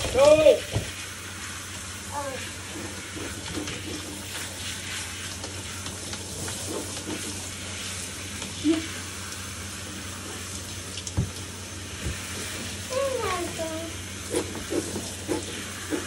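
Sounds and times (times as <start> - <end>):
hands scrubbing wet dog coat: 0.0 - 9.4, 12.0 - 16.0
water hissing: 0.0 - 16.0.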